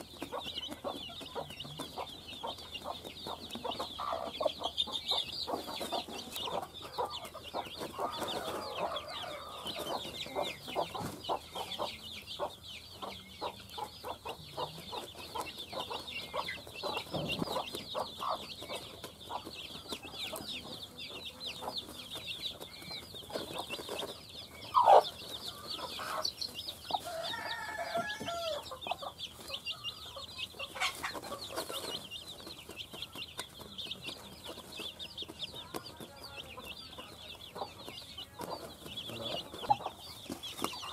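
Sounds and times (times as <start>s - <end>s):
chicks peeping: 0.0s - 40.9s
hen clucking: 0.0s - 40.9s.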